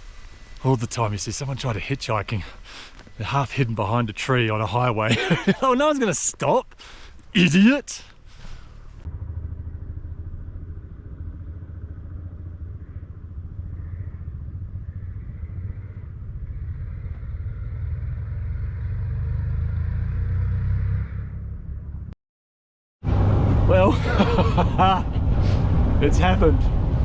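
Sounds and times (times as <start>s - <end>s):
vehicle engine rumbling: 0.0s - 22.2s, 23.0s - 27.0s.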